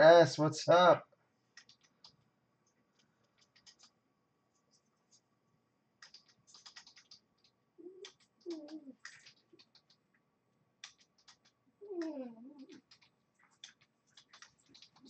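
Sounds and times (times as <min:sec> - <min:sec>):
faint keyboard typing: 0:01.5 - 0:05.3, 0:06.0 - 0:10.2, 0:10.8 - 0:15.0.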